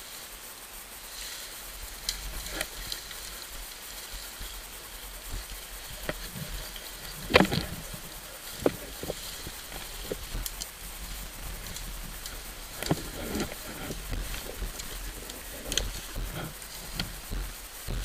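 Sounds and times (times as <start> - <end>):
leaves rustling: 0.0 - 18.0
twigs and branches snapping: 1.8 - 3.5, 5.2 - 18.0.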